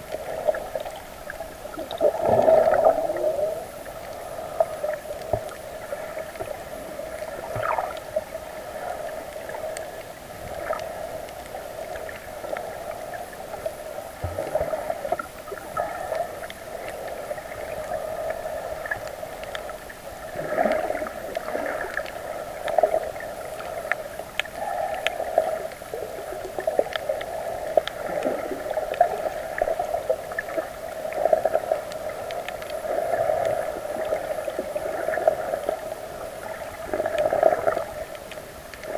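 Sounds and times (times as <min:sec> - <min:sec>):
underwater droning hum: 0:00.0 - 0:38.9
water gurgles: 0:00.0 - 0:38.9
faint clicks: 0:03.8 - 0:08.3, 0:09.0 - 0:38.9.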